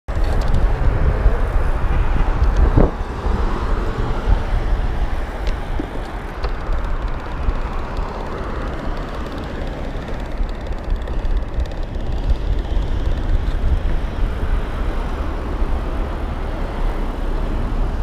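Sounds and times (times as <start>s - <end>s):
passing cars: 0.1s - 18.0s
road noise: 0.1s - 18.0s
wind buffeting microphone: 0.1s - 18.0s.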